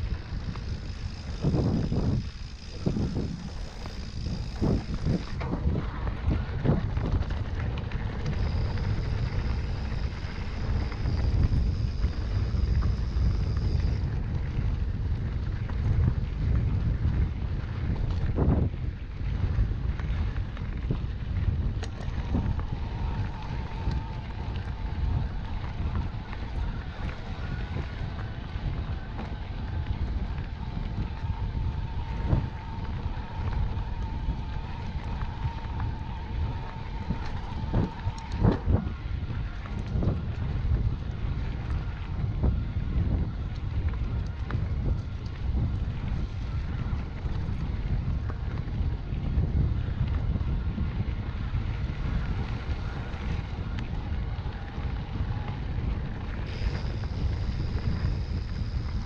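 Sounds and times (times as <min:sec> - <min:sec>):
steady high whine: 0:00.0 - 0:16.2, 0:20.0 - 0:59.0
bike rumbling and rattling on dirt: 0:00.0 - 0:59.0
wind buffeting microphone: 0:00.0 - 0:59.0.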